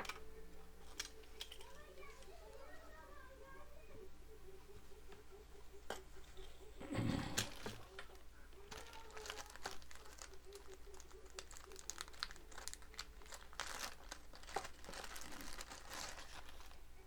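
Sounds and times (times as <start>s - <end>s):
packaging crinkling and rustling: 0.0s - 2.9s, 6.2s - 17.0s.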